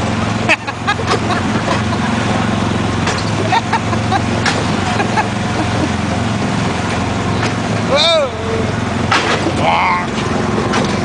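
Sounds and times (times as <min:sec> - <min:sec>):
small gasoline engine running: 0:00.0 - 0:09.8.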